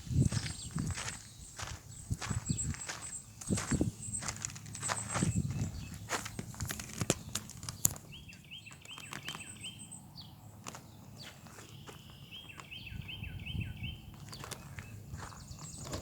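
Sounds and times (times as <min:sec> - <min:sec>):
footsteps outdoors: 0:00.0 - 0:13.3, 0:14.0 - 0:16.0.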